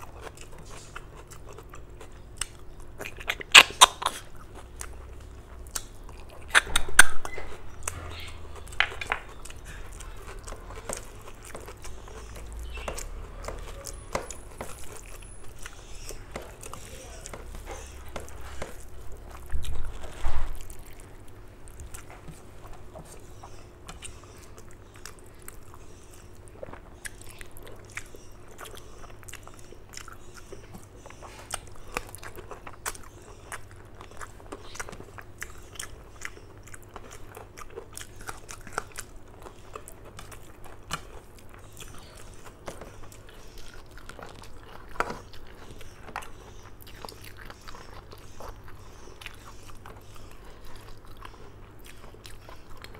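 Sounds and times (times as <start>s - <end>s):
faint steady hum: 0.0s - 52.9s
person chewing with wet smacks: 0.0s - 52.9s.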